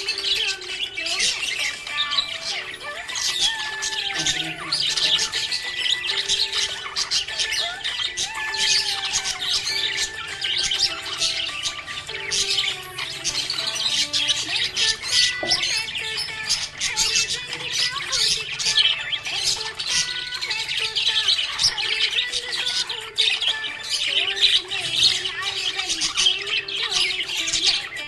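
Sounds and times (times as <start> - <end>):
background music with held notes: 0.0 - 28.0
parrots chirping: 0.0 - 28.0.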